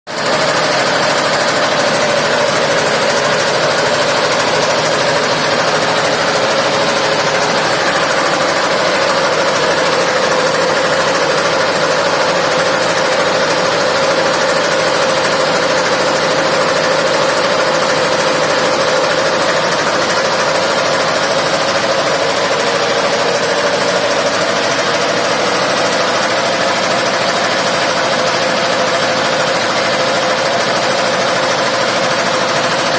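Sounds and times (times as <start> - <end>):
motorcycle engine humming: 0.1 - 32.9.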